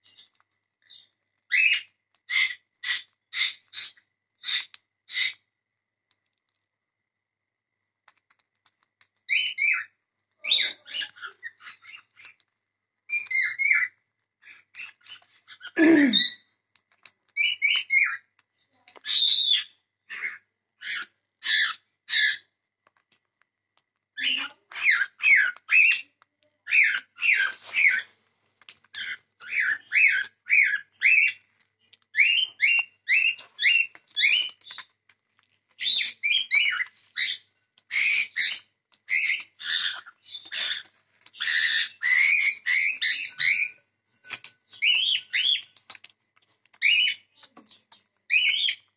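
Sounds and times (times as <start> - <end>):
cockatiels chirping: 0.0 - 5.4, 9.3 - 12.5, 13.1 - 16.4, 17.4 - 22.5, 24.2 - 28.2, 28.8 - 46.2, 46.8 - 48.9.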